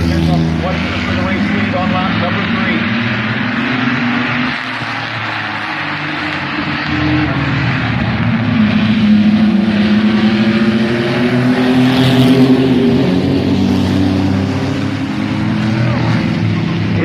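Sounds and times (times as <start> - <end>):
mini truck engines racing: 0.0 - 17.0.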